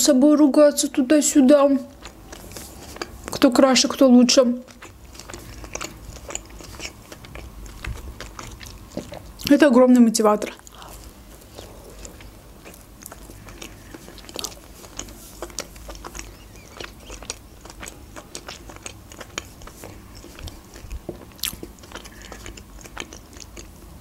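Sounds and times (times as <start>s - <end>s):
person chewing: 1.8s - 9.6s, 10.3s - 24.0s
mouth clicks and smacks: 1.9s - 9.6s, 10.4s - 23.8s.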